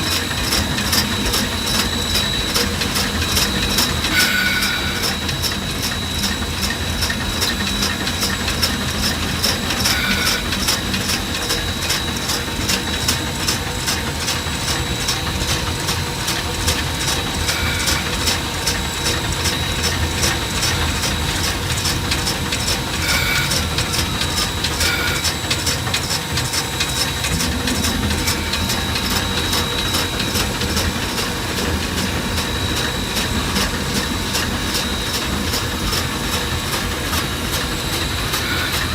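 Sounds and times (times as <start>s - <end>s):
steam locomotive running beat: 0.0s - 38.9s.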